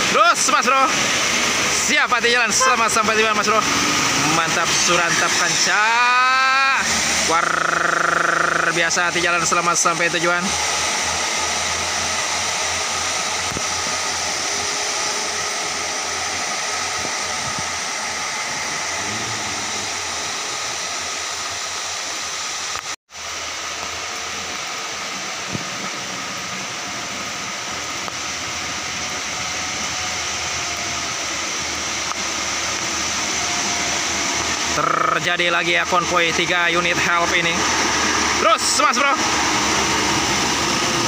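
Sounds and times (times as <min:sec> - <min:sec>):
heavy rain on wet road: 0:00.0 - 0:11.0, 0:19.0 - 0:41.0.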